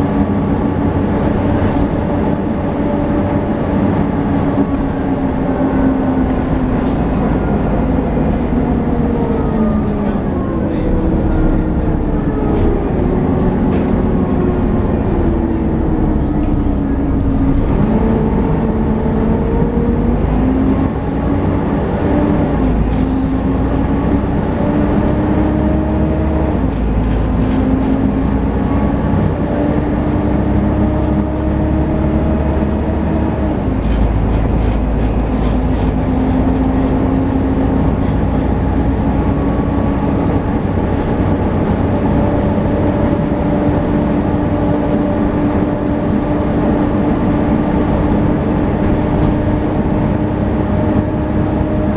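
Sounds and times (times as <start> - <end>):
bus engine and driveline whine: 0.0 - 51.9.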